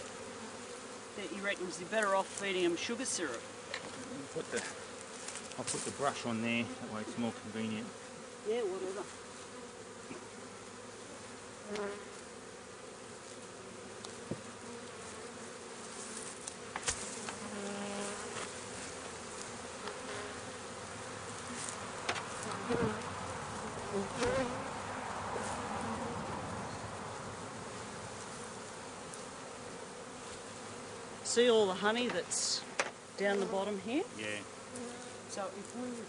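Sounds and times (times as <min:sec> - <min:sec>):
honey bees buzzing: 0:00.0 - 0:36.0.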